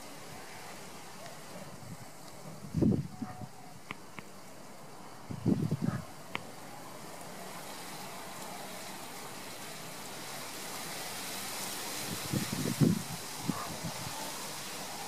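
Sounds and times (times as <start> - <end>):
wind through grass and foliage: 0.0 - 15.0.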